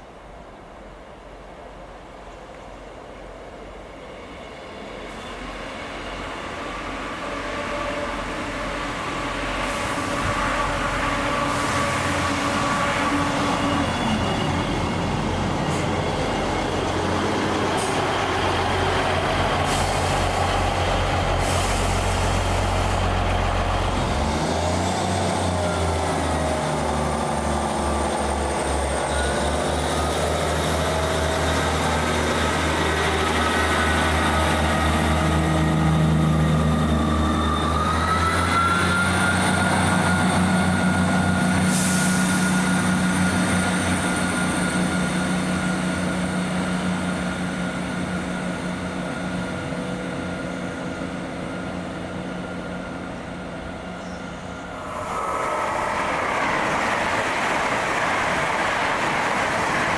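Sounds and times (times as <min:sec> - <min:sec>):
train engine humming and whining: 0:00.0 - 0:59.9.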